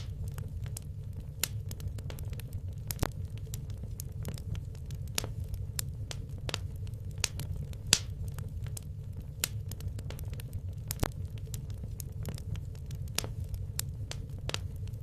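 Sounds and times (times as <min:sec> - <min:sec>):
logs crackling in fireplace: 0:00.0 - 0:15.0
low rumble of flames: 0:00.0 - 0:15.0.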